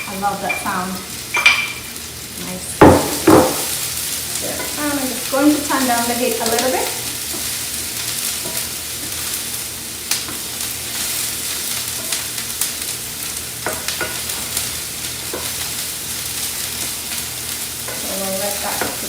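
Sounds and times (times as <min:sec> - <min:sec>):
onion and garlic sizzling in oil: 0:00.0 - 0:19.0.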